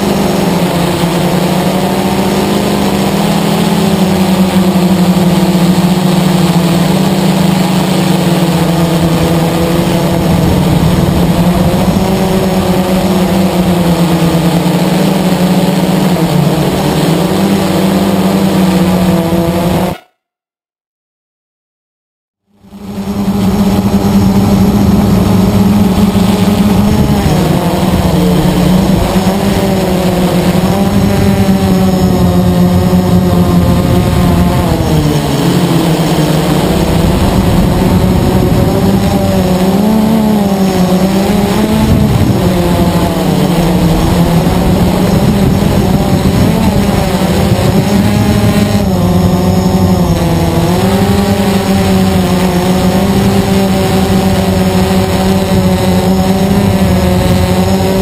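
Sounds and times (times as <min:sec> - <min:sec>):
quadcopter motors buzzing whine: 0:00.0 - 0:20.2, 0:22.5 - 0:58.0.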